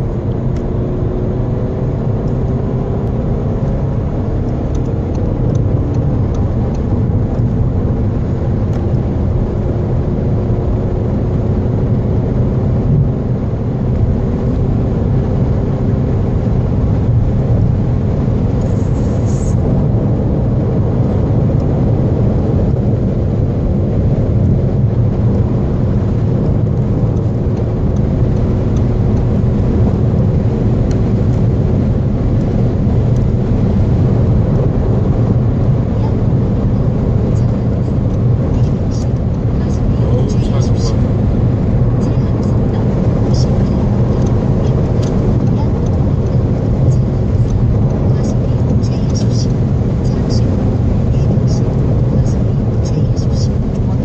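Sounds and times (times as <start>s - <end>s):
car engine drone: 0.0s - 54.0s
road and wind noise: 0.0s - 54.0s.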